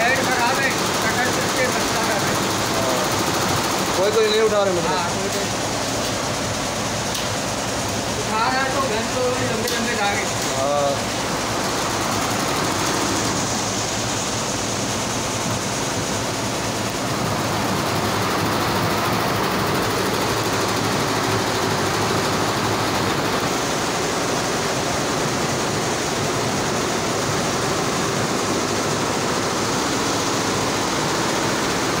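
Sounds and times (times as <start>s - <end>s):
embroidery machine running: 0.0s - 32.0s.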